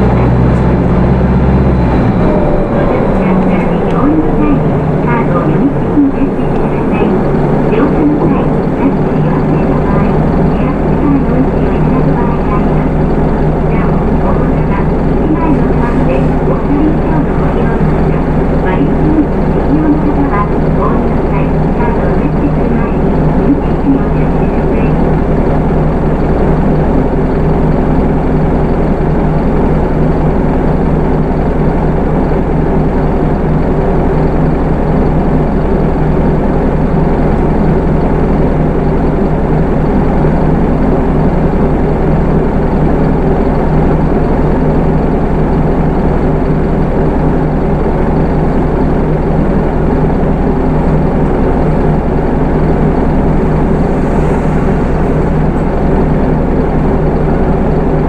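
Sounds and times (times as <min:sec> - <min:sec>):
bus diesel engine running: 0:00.0 - 0:58.0
road noise: 0:00.0 - 0:58.0.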